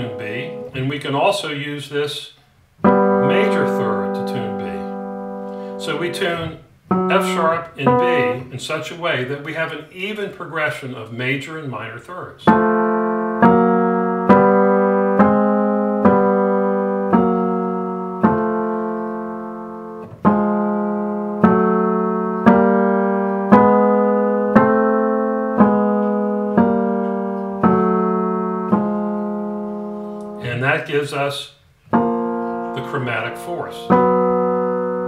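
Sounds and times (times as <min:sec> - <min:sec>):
piano intervals ringing with beating: 0:00.0 - 0:01.8, 0:02.6 - 0:10.7, 0:12.4 - 0:35.0.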